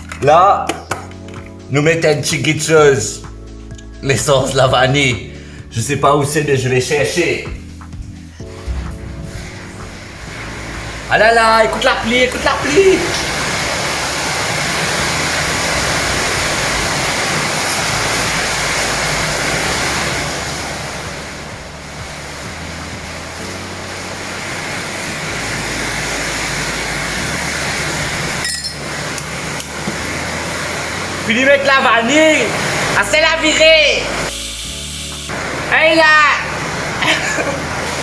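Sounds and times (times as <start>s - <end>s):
steady rain: 6.7s - 38.0s.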